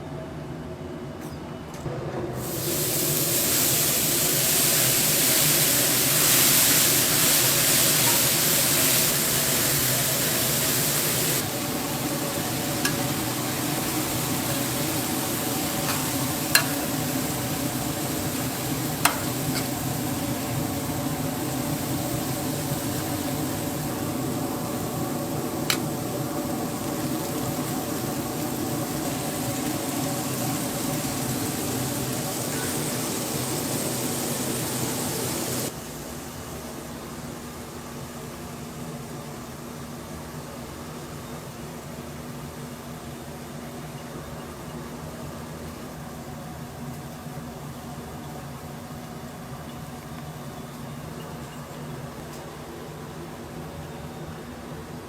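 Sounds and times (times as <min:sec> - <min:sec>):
food sizzling in hot oil: 0:02.4 - 0:52.2.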